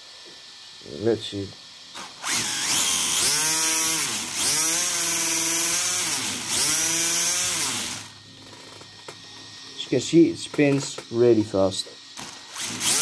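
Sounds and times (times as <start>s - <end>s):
electric motor whine: 0.1s - 13.0s.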